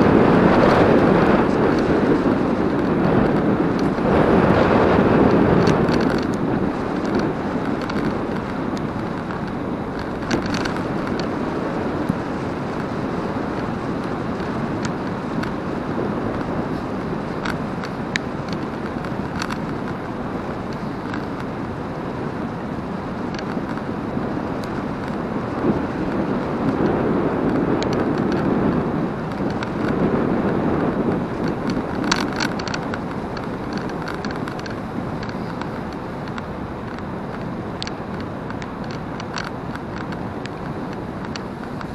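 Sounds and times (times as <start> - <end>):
tyres rolling on asphalt: 0.0 - 41.9
wind on microphone: 0.0 - 41.9.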